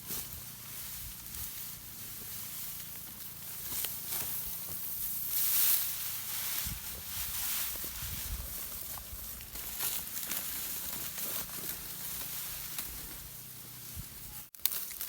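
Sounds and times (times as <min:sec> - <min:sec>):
dry rustling: 0:00.0 - 0:15.0.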